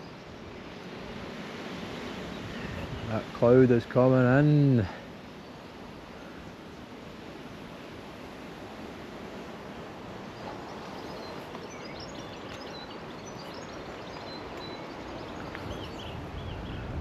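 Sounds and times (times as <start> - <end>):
songbirds chirping: 0.0 - 17.0
steady rushing outdoor noise: 0.0 - 17.0.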